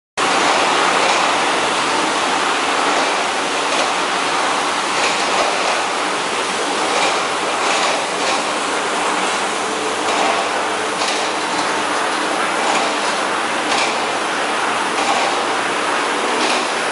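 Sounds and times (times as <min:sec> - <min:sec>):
veneer lathe rushing noise: 0:00.2 - 0:16.9.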